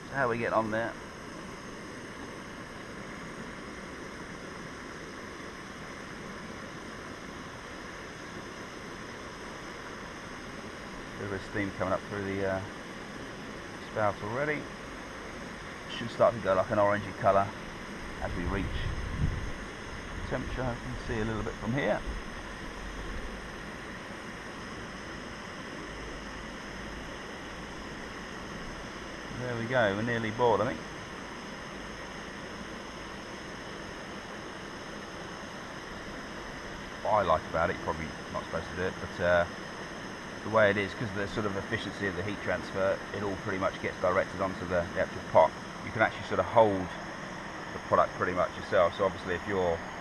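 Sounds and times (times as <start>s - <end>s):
gas stove burning: 0.0s - 50.0s.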